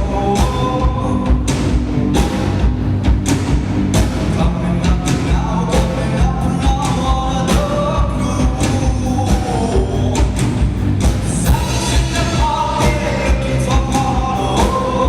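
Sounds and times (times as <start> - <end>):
person singing: 0.0 - 2.6, 4.2 - 10.6, 11.4 - 15.0
bass and guitar: 0.0 - 15.0
drum kit beat: 0.0 - 15.0.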